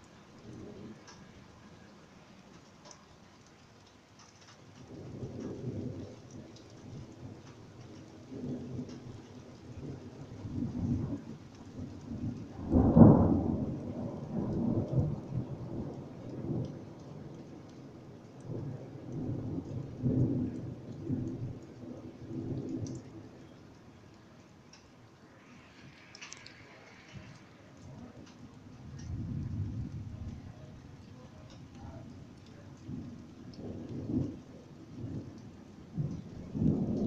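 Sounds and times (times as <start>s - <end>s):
light rain: 0.0s - 37.0s
thunder rumbling: 0.0s - 37.0s.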